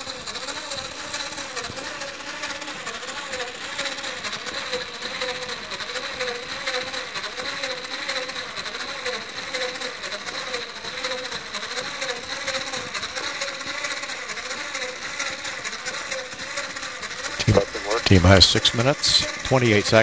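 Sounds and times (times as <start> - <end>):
small electric motors whirring: 0.0 - 19.0.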